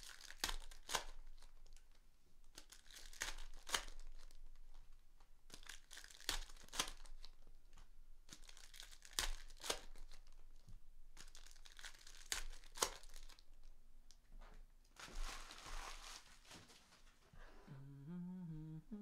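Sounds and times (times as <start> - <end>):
wrappers tearing and crinkling: 0.0 - 13.7, 15.0 - 17.2.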